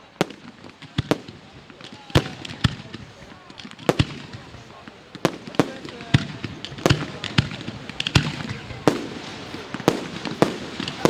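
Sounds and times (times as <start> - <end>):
fireworks bursting with crackling: 0.0 - 11.0.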